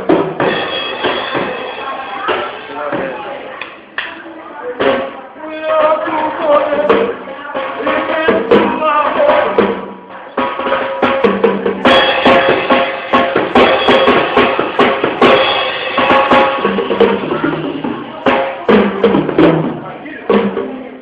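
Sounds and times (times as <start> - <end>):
irregular drum and cymbal hits: 0.0 - 21.0.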